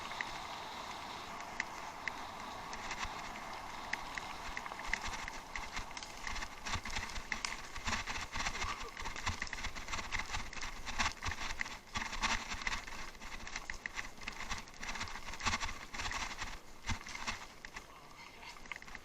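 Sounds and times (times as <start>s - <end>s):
bicycle rattling on rough ground: 0.0s - 19.0s.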